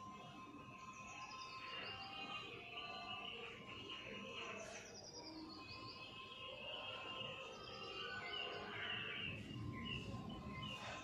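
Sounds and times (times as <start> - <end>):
high chirping bird-like notes: 0.0 - 11.0
soft background music: 0.0 - 11.0.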